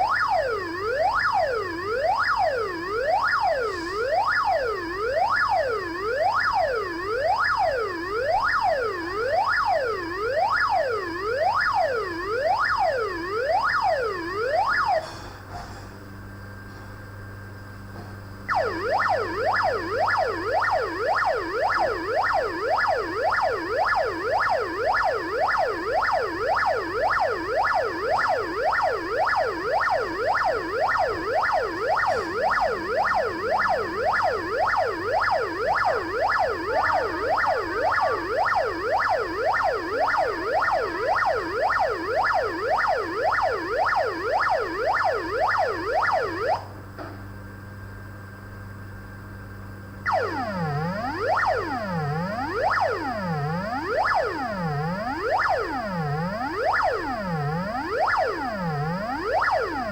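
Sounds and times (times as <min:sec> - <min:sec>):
electronic siren wail: 0:00.0 - 0:15.3, 0:18.4 - 0:46.8, 0:50.0 - 0:59.9.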